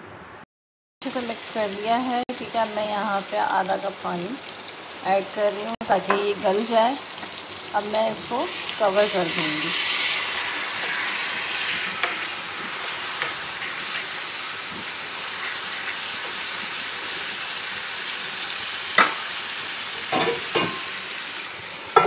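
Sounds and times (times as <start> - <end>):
minced meat sizzling on a griddle: 1.0 - 22.0.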